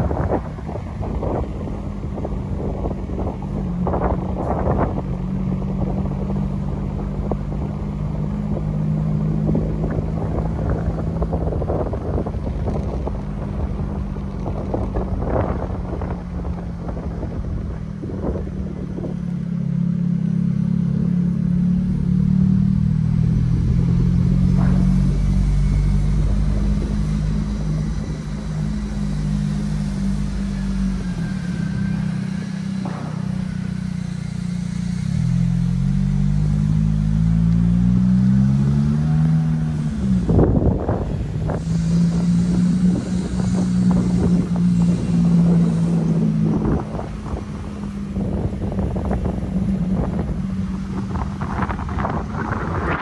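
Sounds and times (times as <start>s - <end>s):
car engine running: 0.0s - 53.0s
tyre and road noise: 0.0s - 53.0s.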